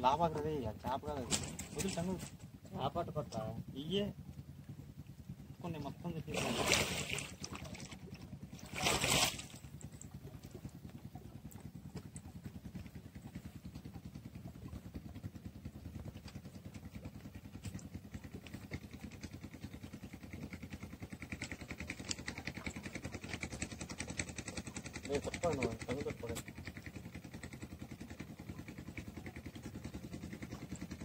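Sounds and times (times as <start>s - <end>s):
small boat engine running: 0.0s - 31.0s.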